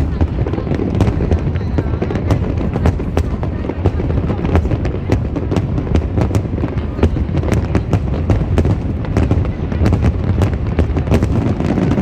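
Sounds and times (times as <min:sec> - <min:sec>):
fireworks bangs: 0:00.0 - 0:12.0
low rumble of explosions: 0:00.0 - 0:12.0.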